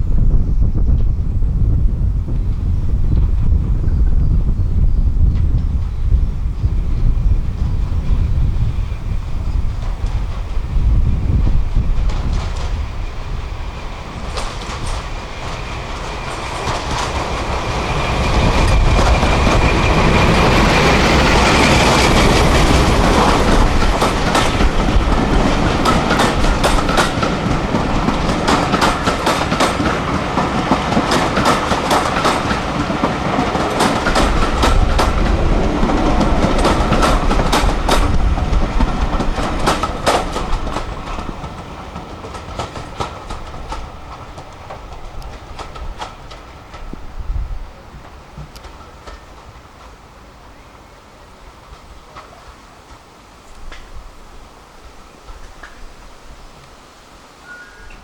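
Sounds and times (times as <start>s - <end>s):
train rumble: 0.0s - 58.0s
train wheels clicking on rails: 0.6s - 56.8s.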